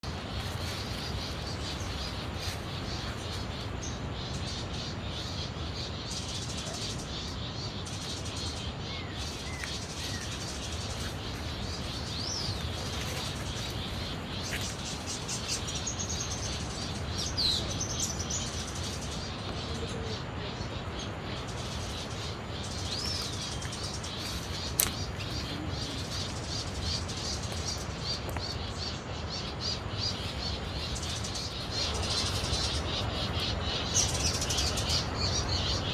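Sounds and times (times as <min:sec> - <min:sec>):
ambient hiss: 0:00.0 - 0:35.9.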